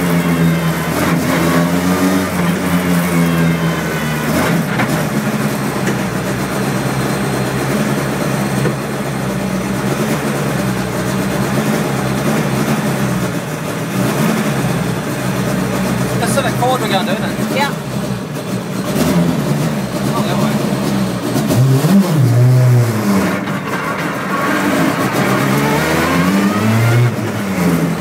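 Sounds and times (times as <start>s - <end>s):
rally car engine: 0.0s - 28.0s.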